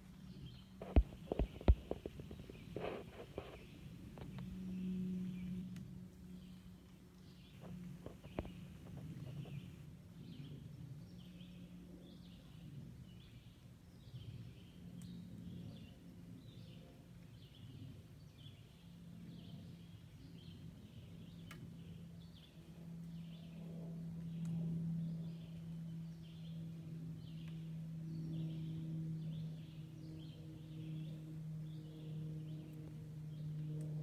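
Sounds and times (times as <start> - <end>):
distant airplane engine drone: 0.0 - 34.0.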